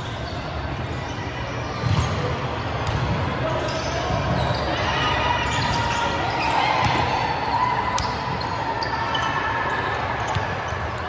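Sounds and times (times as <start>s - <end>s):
background din in gym hall: 0.0s - 11.0s.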